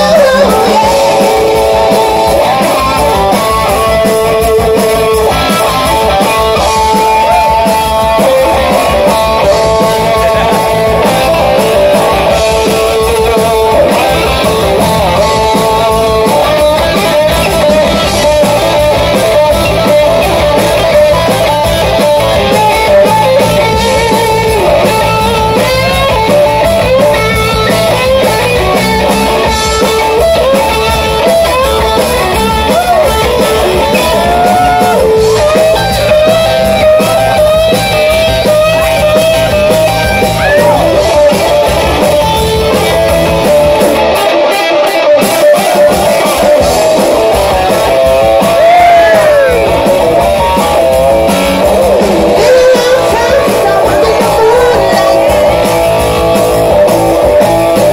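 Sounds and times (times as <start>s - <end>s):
bass guitar: 0.0s - 57.9s
drums: 0.0s - 57.9s
electric guitar: 0.0s - 57.9s.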